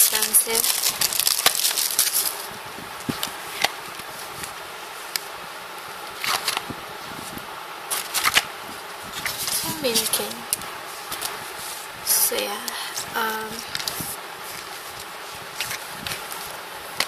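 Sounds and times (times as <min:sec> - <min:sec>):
packaging rustling: 0:00.0 - 0:05.3, 0:06.0 - 0:11.9, 0:12.7 - 0:17.0
faint steady hiss: 0:00.0 - 0:17.0.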